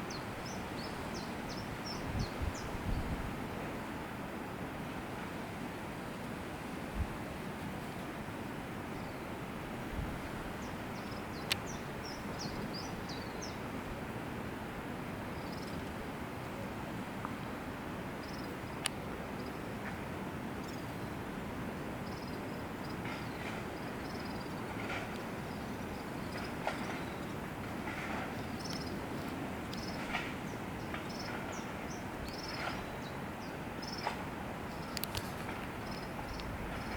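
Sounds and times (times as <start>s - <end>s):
background hiss and rumble: 0.0s - 36.9s.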